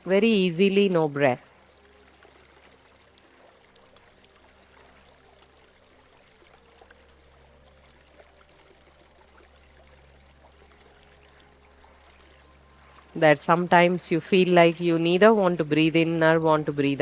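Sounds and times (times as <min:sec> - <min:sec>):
shallow stream trickling: 0:00.0 - 0:17.0.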